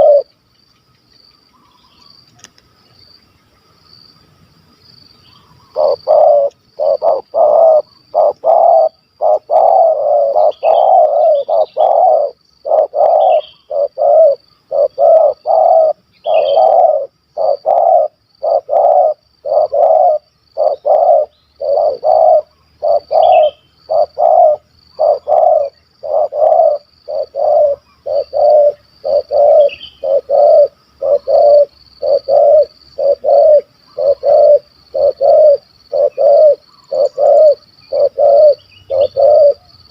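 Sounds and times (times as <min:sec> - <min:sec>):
dove cooing: 0:00.0 - 0:00.3, 0:05.4 - 0:39.9
birds chirping faintly: 0:00.0 - 0:39.9
high insect trill: 0:00.0 - 0:39.9.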